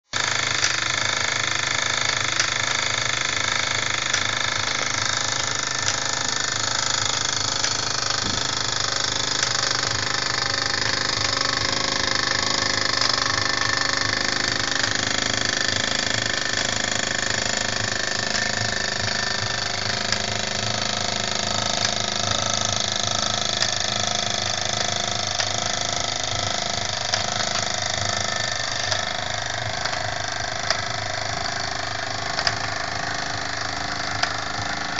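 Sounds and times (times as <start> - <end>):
model steam engine whirring: 0.1 - 34.9.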